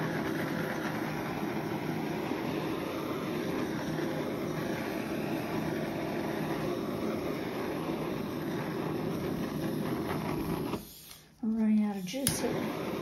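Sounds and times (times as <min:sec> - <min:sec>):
butane torch hissing: 0:00.0 - 0:13.0.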